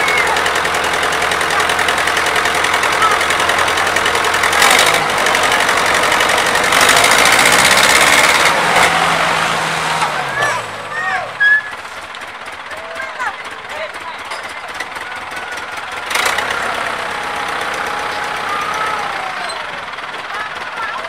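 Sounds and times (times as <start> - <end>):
diesel engines under load: 0.0 - 21.0.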